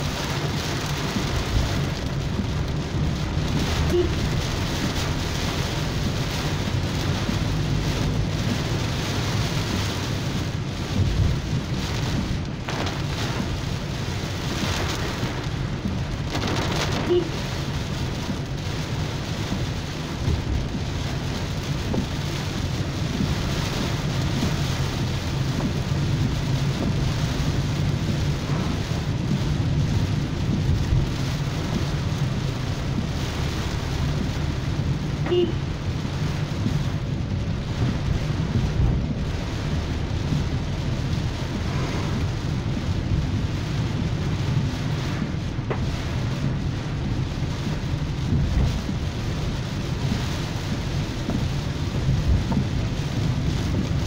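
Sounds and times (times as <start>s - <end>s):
car driving on wet road: 0.0s - 54.0s
heavy rain on car windscreen: 0.0s - 54.0s.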